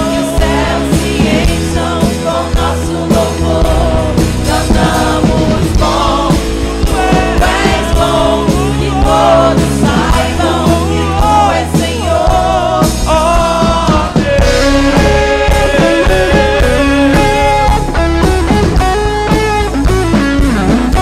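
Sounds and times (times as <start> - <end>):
person singing: 0.0 - 18.1
worship rock band playing: 0.0 - 21.0.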